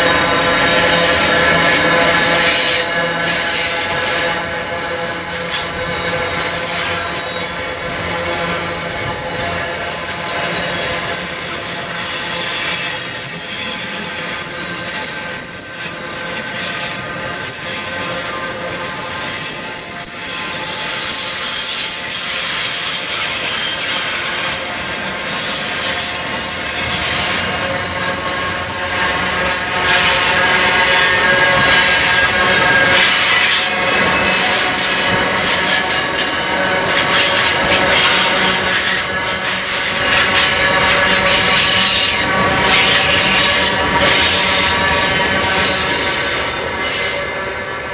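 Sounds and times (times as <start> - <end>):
wheels squealing: 0.0 - 47.6
thin high whine: 0.0 - 47.9
train wheels on rails: 0.0 - 47.9.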